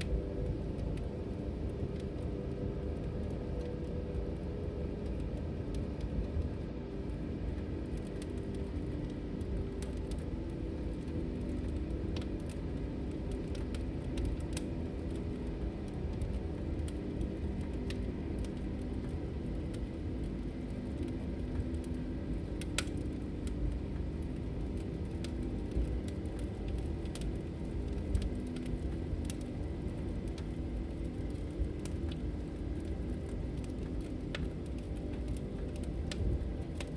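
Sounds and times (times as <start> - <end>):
fire crackling and popping: 0.0 - 36.9
wood fire rumbling: 0.0 - 36.9.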